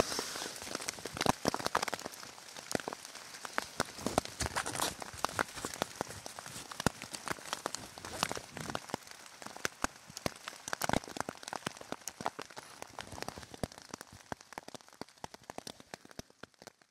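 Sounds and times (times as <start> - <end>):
faint rain hiss: 0.0 - 16.6
raindrops ticking: 0.0 - 16.9.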